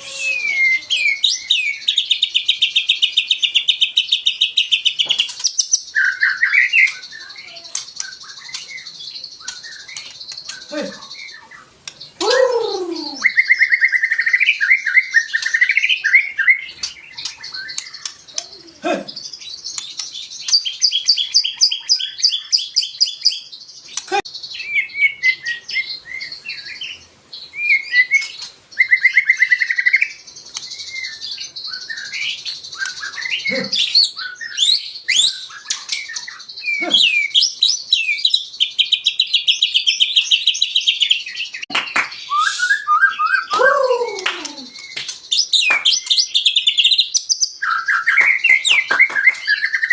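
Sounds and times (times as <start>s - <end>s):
songbird singing trills and whistles: 0.0s - 49.9s.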